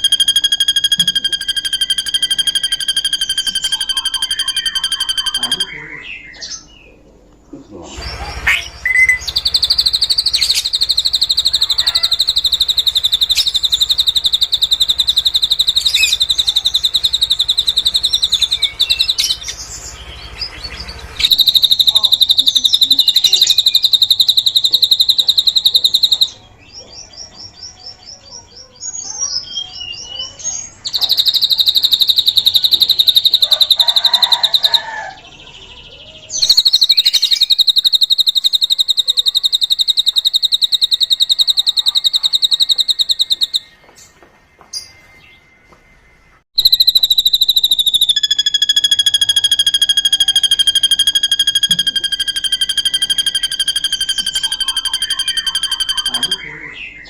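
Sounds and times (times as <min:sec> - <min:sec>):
bird fast high trill: 0:00.0 - 0:06.2, 0:08.0 - 0:26.4, 0:30.8 - 0:35.2, 0:36.3 - 0:43.7, 0:46.6 - 0:57.0.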